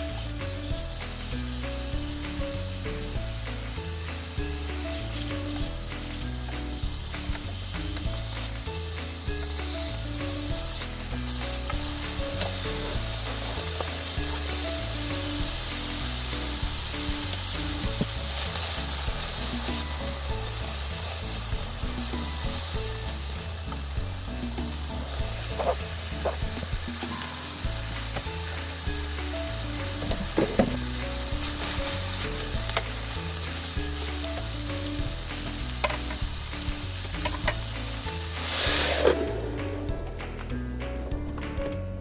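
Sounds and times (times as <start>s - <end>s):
food sizzling in a pan: 0.0s - 40.4s.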